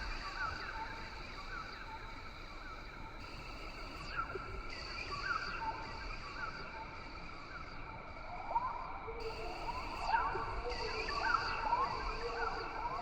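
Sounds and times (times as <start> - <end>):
insect-like drone: 0.0 - 13.0.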